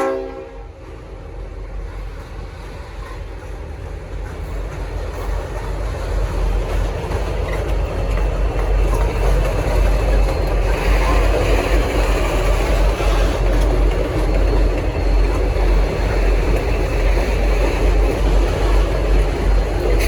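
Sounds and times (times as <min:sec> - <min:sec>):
diesel locomotive rumble: 0:00.0 - 0:20.0.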